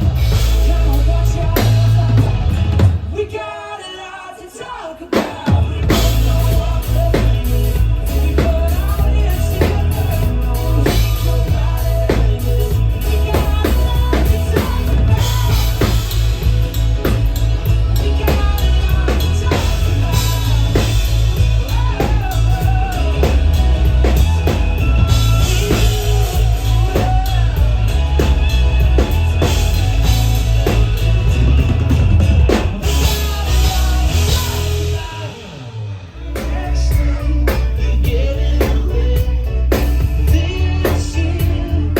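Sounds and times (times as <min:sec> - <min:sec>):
heavy bass line: 0:00.0 - 0:03.3, 0:05.6 - 0:41.9
drum kit beat: 0:00.0 - 0:03.5, 0:05.0 - 0:41.9
live band playing: 0:00.0 - 0:41.9.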